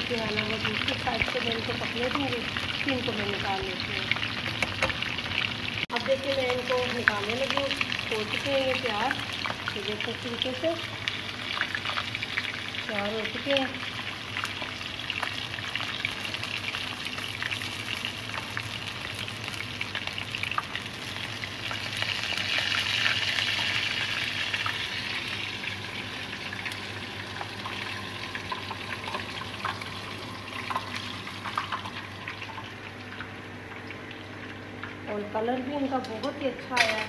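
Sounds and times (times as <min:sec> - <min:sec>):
deep-frying sizzle: 0:00.0 - 0:37.0.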